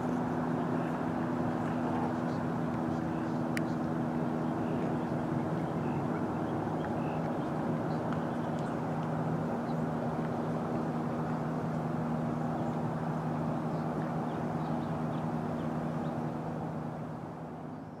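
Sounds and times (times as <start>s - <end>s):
distant low engine drone: 0.0s - 18.0s.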